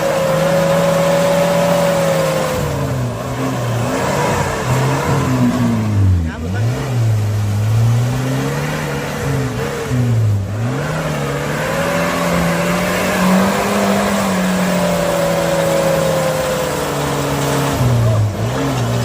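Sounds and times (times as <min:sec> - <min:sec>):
off-road vehicle engine: 0:00.0 - 0:19.0.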